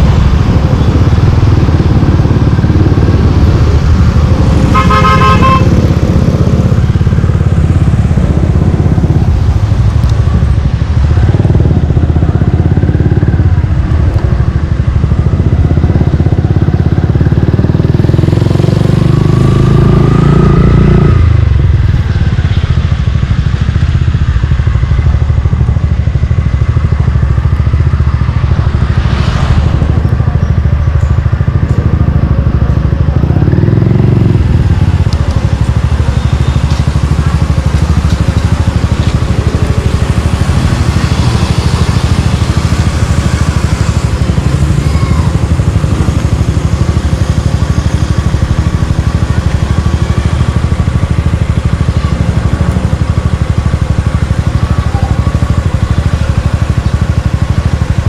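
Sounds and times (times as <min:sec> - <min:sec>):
motorcycle engine running loud: 0:00.0 - 0:58.0.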